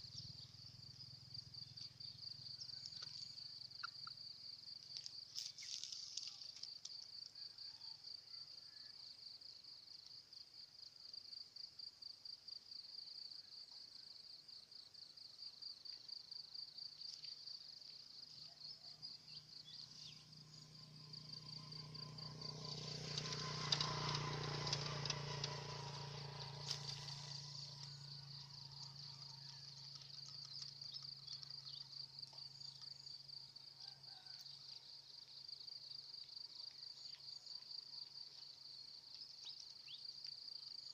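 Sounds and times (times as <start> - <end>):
insects trilling: 0.0 - 11.7, 12.5 - 40.9.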